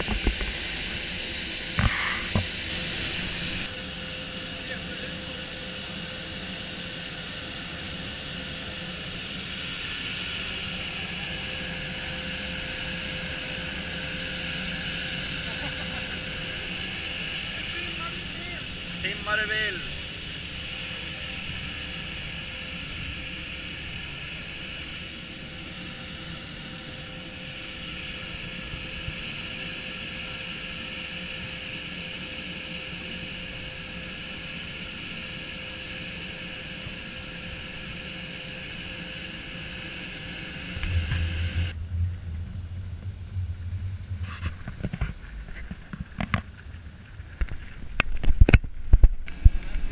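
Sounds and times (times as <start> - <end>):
gas turbine whine: 0.0 - 49.9.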